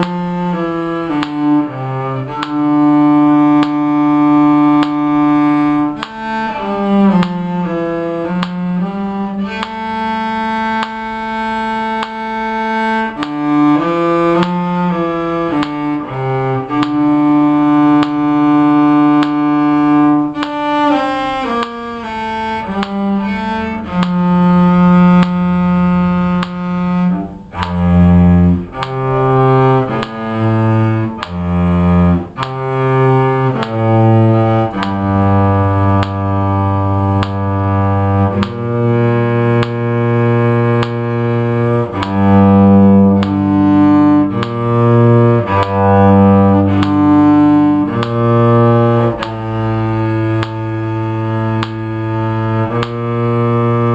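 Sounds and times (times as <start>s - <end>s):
cello playing slow melody: 0.0s - 53.9s.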